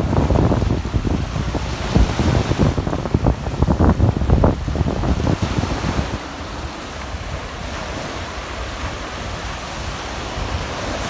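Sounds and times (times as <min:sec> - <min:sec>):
waves washing onto beach: 0:00.0 - 0:11.0
wind buffeting microphone: 0:00.0 - 0:11.0.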